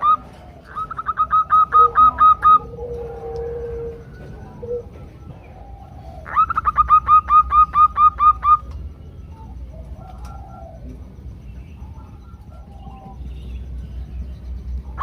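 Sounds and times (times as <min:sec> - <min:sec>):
faint dove calls: 0:00.0 - 0:13.7
dove calling in rapid notes: 0:00.0 - 0:15.0.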